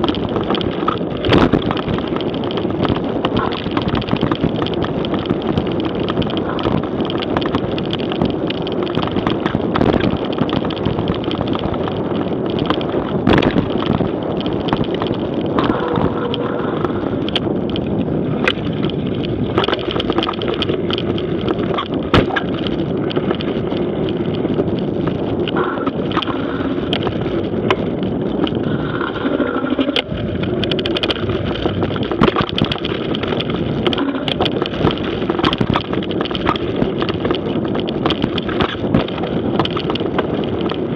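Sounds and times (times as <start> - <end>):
bike knocks and rattles: 0.0 - 40.9
mountain bike riding on dirt trail: 0.0 - 40.9.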